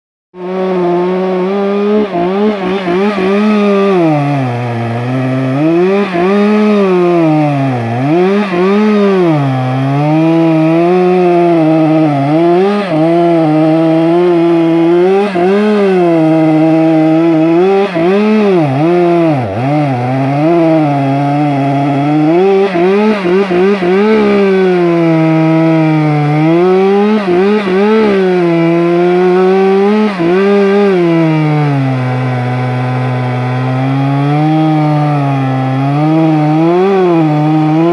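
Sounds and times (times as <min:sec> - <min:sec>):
chainsaw cutting wood: 0:00.4 - 0:37.9.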